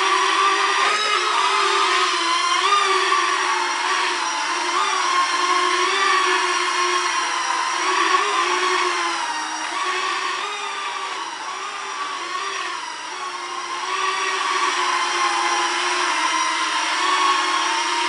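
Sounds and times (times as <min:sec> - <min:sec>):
toy drone motors whining: 0:00.0 - 0:18.0.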